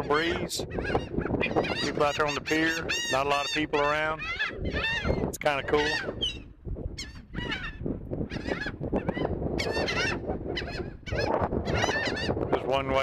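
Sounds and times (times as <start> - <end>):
seagulls calling: 0.0 - 12.7
wind rumble on microphone: 0.0 - 13.0.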